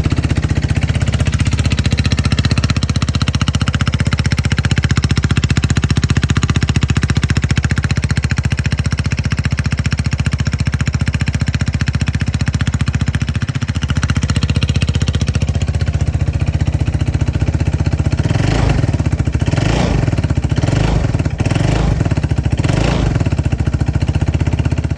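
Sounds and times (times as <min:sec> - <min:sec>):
scooter engine idling: 0:00.0 - 0:24.9
scooter engine revving: 0:00.0 - 0:24.9.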